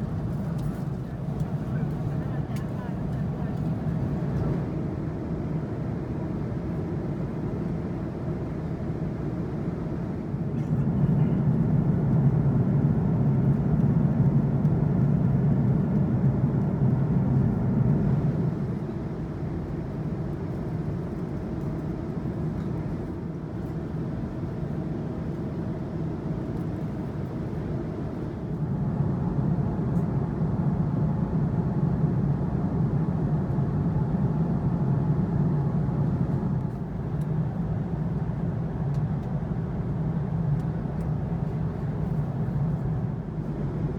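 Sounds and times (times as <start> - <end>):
aircraft cabin rumble: 0.0 - 43.9.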